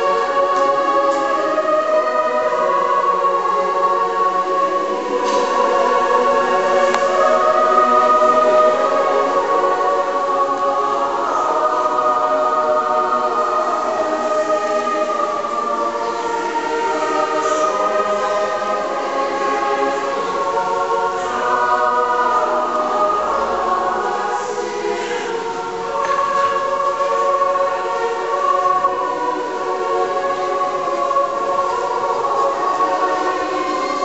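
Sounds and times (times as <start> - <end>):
choir singing slow chords: 0.0 - 34.0.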